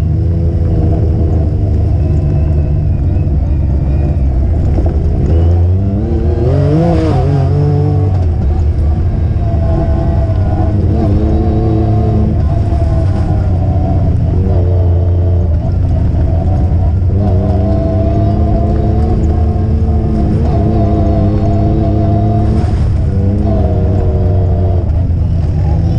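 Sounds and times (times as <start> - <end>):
off-road vehicle engine rumbling: 0.0 - 25.9.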